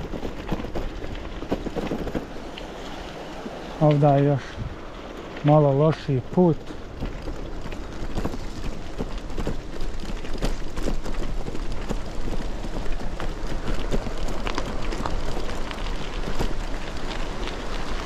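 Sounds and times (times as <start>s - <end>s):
bicycle tyres crunching on gravel: 0.0s - 18.0s
wheels knocking on stones: 0.0s - 18.0s.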